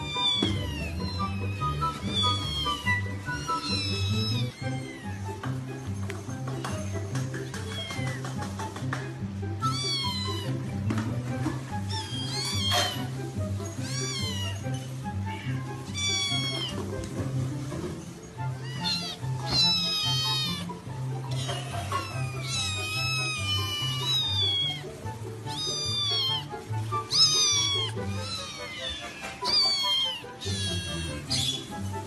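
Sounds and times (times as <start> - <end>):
cat meowing: 0.0 - 5.6, 7.5 - 8.3, 9.6 - 10.9, 11.8 - 17.0, 18.4 - 31.9
background music with steady beat: 0.0 - 32.0.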